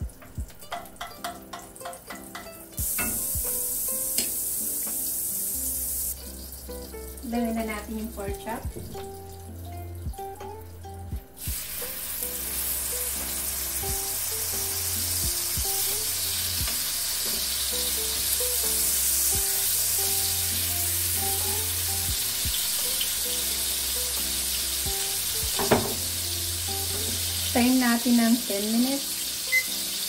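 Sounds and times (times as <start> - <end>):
meat sizzling in a frying pan: 0.6 - 9.6, 11.4 - 30.0.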